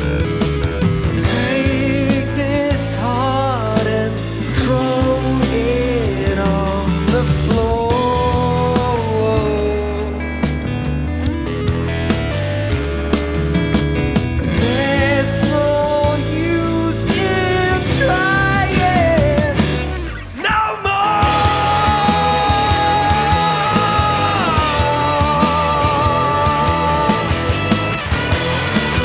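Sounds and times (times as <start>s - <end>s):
bass and drums: 0.0s - 29.0s
lead electric guitar: 0.0s - 29.0s.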